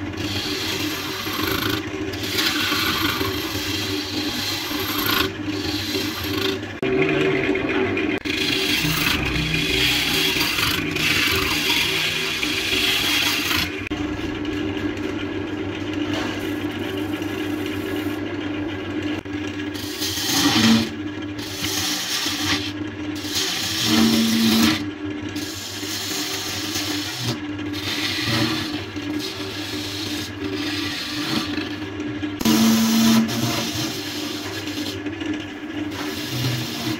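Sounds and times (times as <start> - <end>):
turning tool scraping wood: 0.0 - 6.9, 8.2 - 14.0, 16.0 - 18.2, 19.6 - 36.9
wood lathe motor hum: 0.0 - 36.9.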